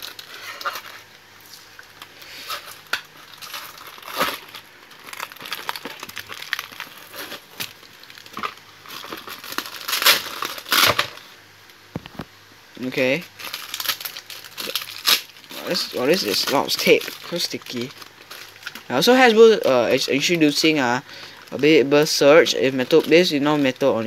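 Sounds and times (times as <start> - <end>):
plastic packaging crinkling: 0.0 - 11.4, 12.0 - 24.0.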